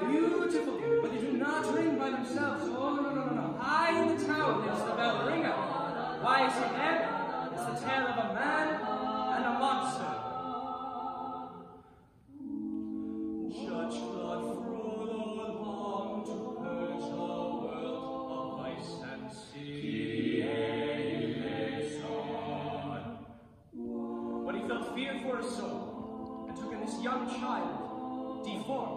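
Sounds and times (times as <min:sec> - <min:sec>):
male quartet singing a cappella: 0:00.0 - 0:28.9.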